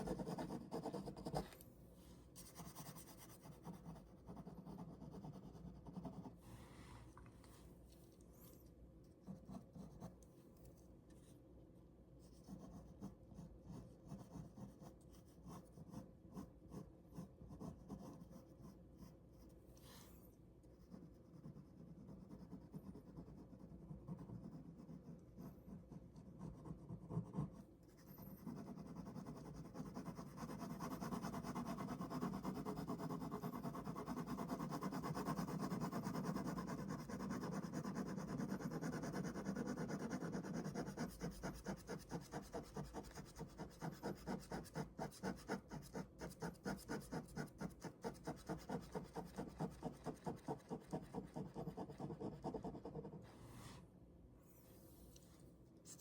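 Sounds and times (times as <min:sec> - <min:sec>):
pen scratching on paper: 0:00.0 - 0:01.6, 0:02.4 - 0:06.4, 0:09.2 - 0:10.2, 0:12.2 - 0:19.4, 0:20.7 - 0:53.3.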